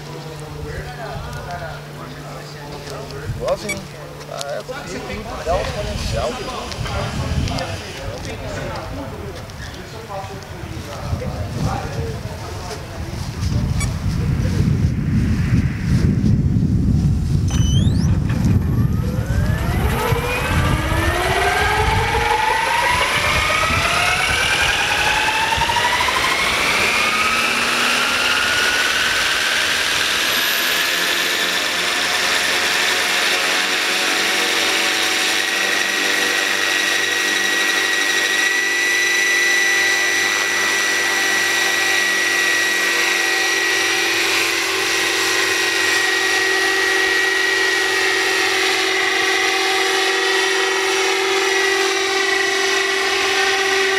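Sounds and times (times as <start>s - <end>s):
model helicopter motor whine: 0.6s - 10.1s, 17.4s - 53.9s.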